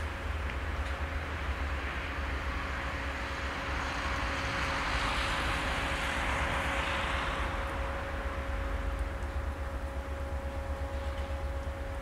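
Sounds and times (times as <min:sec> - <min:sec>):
locomotive engine hum and rumble: 0:00.0 - 0:12.0.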